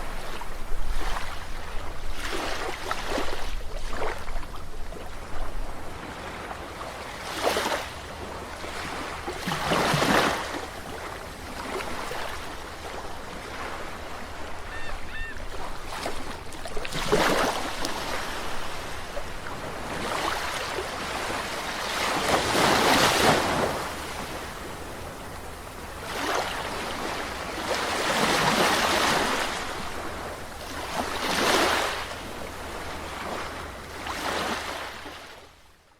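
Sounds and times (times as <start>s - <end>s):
sea waves breaking on shore: 0.0s - 35.6s.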